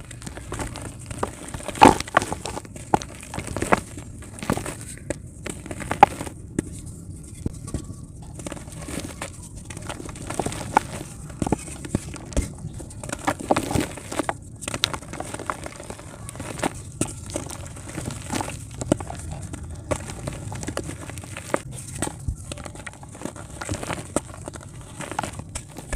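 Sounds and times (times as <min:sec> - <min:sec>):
clay crumbling and crunching: 0:00.0 - 0:25.9.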